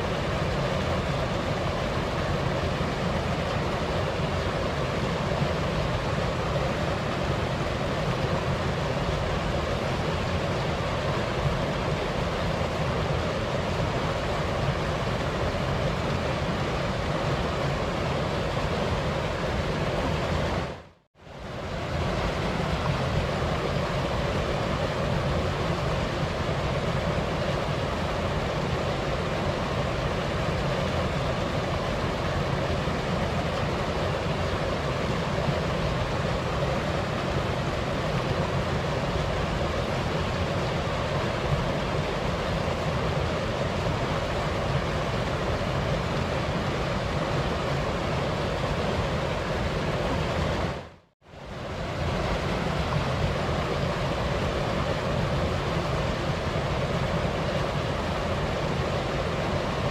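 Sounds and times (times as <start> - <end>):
waterfall rushing: 0.0 - 20.8, 21.4 - 59.9
light wind: 0.0 - 59.9.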